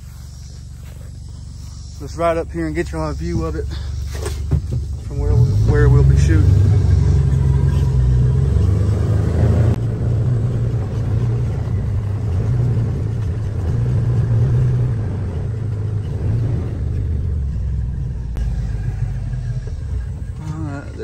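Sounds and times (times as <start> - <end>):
utility vehicle engine running: 0.0 - 21.0.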